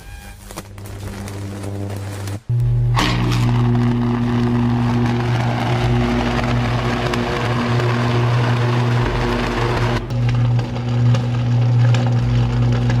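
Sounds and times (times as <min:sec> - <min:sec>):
engine hum: 0:00.4 - 0:13.0.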